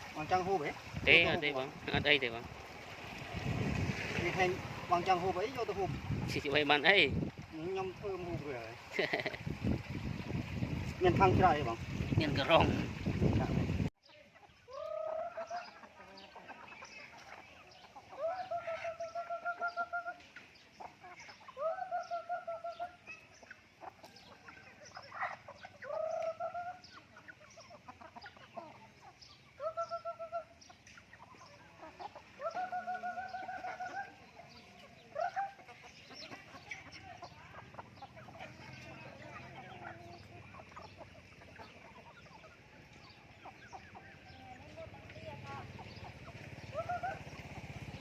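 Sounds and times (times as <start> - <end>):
chicken clucks: 0.0 - 48.0
chickens calling: 0.0 - 48.0.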